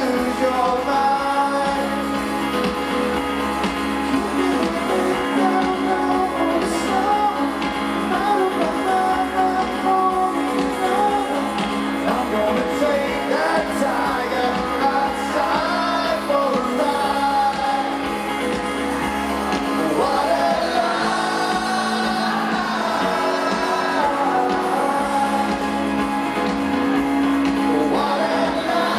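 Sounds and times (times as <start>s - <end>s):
guitars: 0.0s - 28.9s
live rock band playing: 0.0s - 28.9s
sung vocals: 0.0s - 28.9s.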